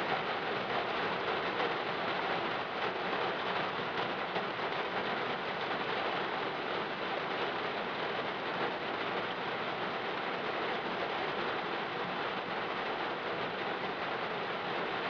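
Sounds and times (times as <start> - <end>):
rain on a car: 0.0 - 15.0.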